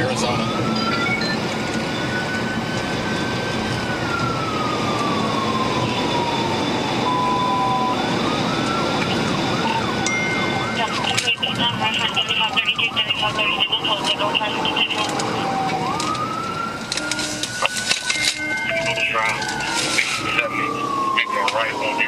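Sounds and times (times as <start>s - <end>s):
police siren wailing: 0.0s - 22.0s.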